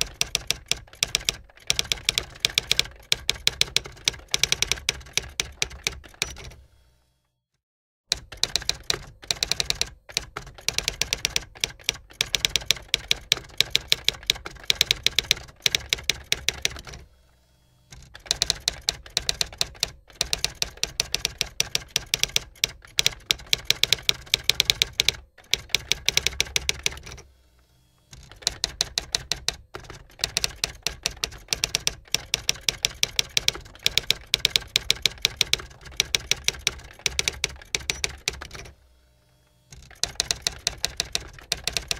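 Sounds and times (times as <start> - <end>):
typewriter keys clacking: 0.0 - 6.6, 8.1 - 17.0, 18.0 - 27.2, 28.2 - 38.7, 39.8 - 41.9.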